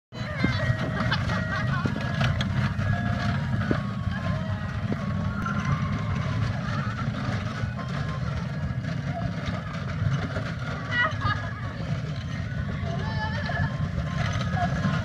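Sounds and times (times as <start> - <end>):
ride-on toy cars rumbling: 0.1 - 15.0.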